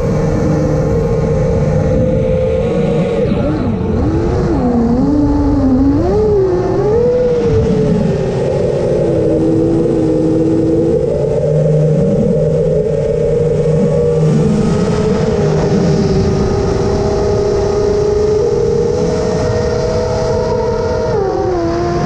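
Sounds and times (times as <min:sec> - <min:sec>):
rush of wind: 0:00.0 - 0:22.0.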